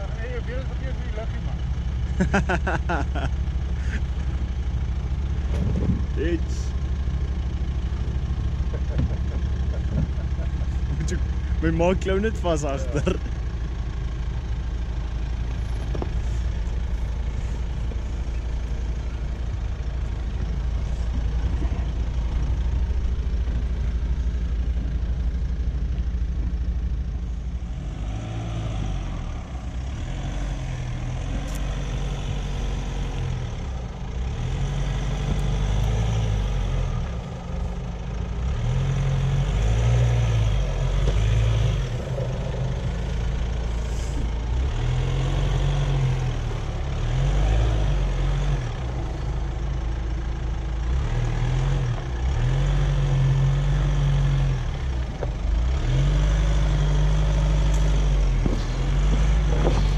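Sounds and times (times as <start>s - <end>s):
engine running at low revs: 0.0s - 59.9s.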